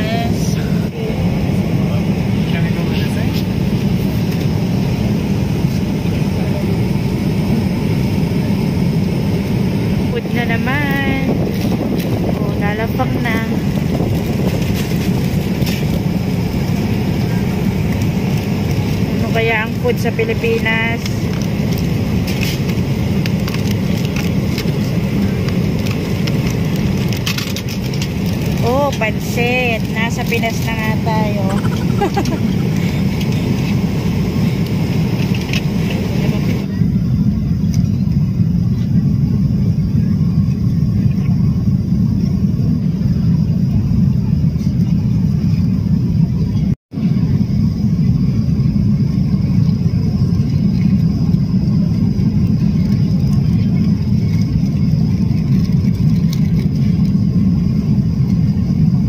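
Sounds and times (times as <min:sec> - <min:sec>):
airliner cabin drone: 0:00.0 - 0:59.0.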